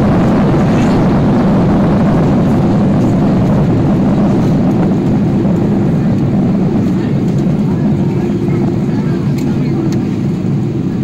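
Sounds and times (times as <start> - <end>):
jet engine noise in cabin: 0.0 - 11.0
runway rumble: 0.0 - 11.0.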